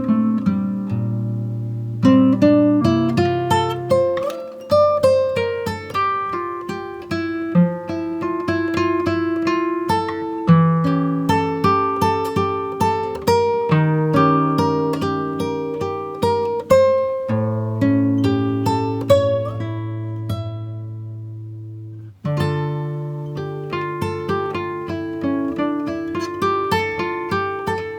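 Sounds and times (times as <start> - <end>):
plucked acoustic guitar music: 0.0 - 27.9.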